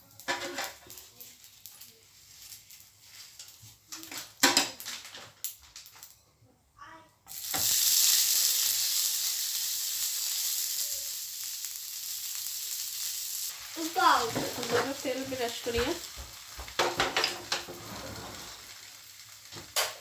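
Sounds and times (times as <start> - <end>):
bread sizzling in hot oil: 0.0 - 6.2, 7.2 - 20.0.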